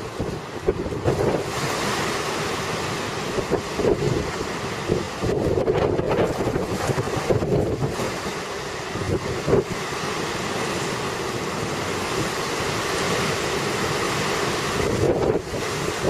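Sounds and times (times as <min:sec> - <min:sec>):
gale wind gusting through trees: 0:00.0 - 0:16.0
wind buffeting microphone: 0:00.0 - 0:16.0.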